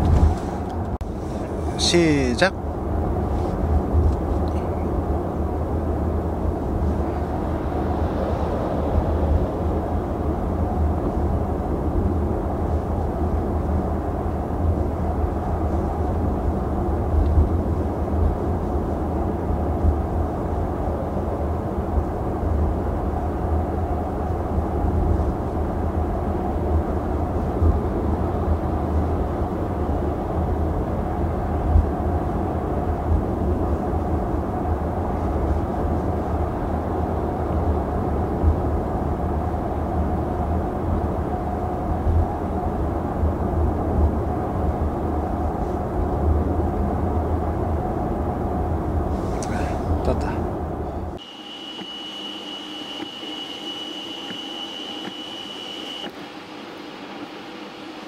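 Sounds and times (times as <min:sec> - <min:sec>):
tyre and road noise in car cabin: 0:00.0 - 0:56.2.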